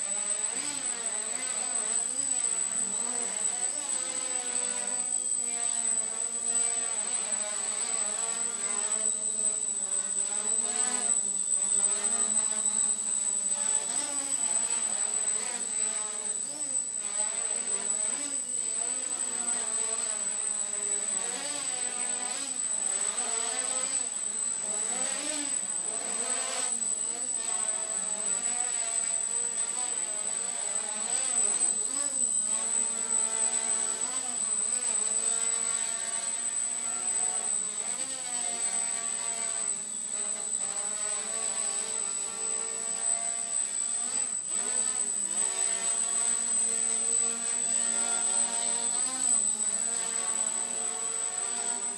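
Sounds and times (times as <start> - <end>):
drone motors buzzing: 0.0 - 51.9.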